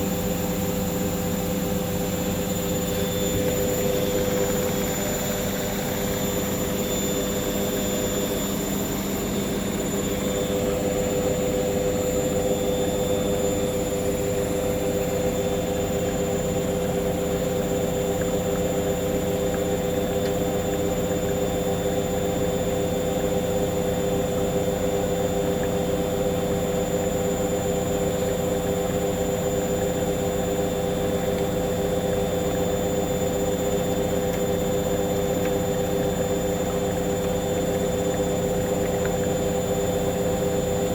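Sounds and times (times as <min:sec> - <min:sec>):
washing machine drum spinning: 0:00.0 - 0:40.9.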